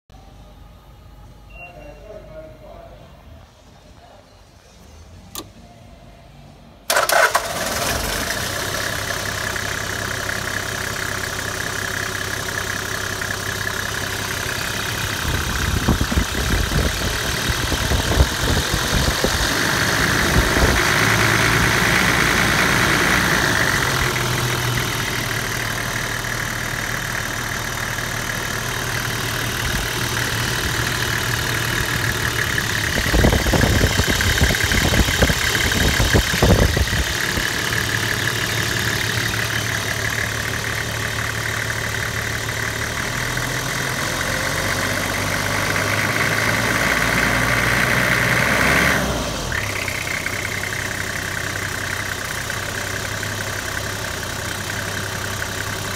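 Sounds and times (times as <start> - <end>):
diesel engine starting and idling: 4.5 - 55.9.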